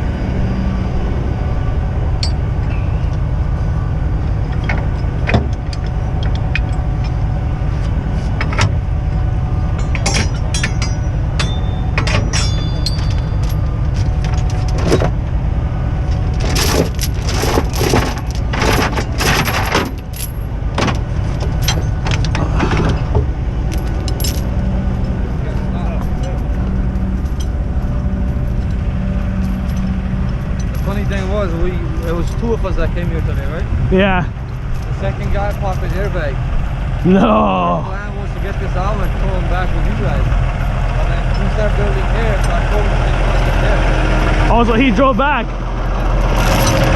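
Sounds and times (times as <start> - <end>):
diesel truck engine running: 0.0 - 46.9
metal clanks and rattles: 2.2 - 37.1, 38.0 - 46.9.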